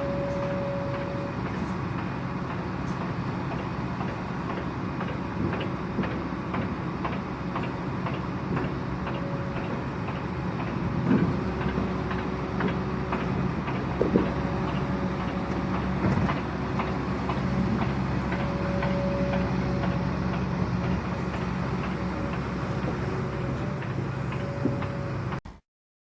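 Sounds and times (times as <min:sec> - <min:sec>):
vibratory pile driver humming: 0:03.4 - 0:25.6.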